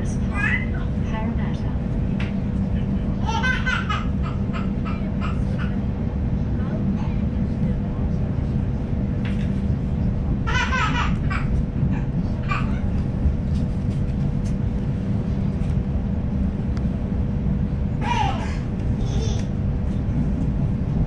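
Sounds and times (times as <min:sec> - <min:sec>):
train rumble and hum: 0:00.0 - 0:21.0.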